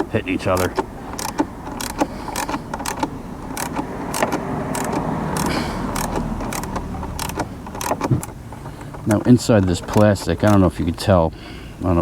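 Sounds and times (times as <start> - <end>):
bolt grating and creaking: 0.0 - 11.2
socket wrench ratchet clicks: 0.6 - 10.7.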